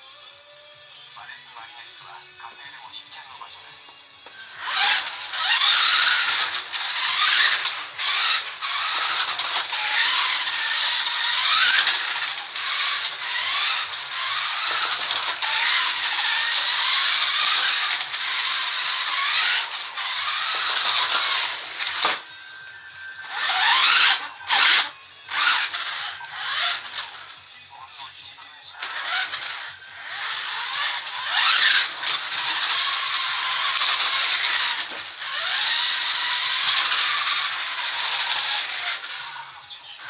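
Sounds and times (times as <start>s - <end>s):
electric motor and gears whining: 0.0s - 40.0s.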